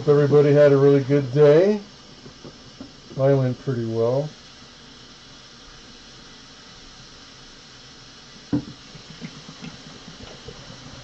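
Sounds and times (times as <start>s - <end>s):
water running in a sink: 0.0s - 11.0s.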